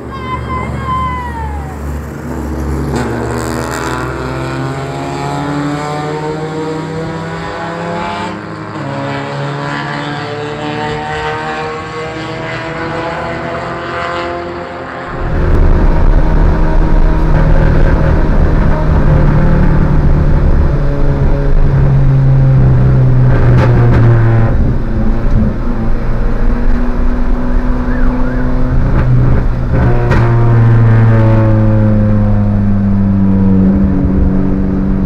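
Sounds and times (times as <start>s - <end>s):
loud close engine: 0.0s - 35.0s
race car engines: 0.0s - 35.0s.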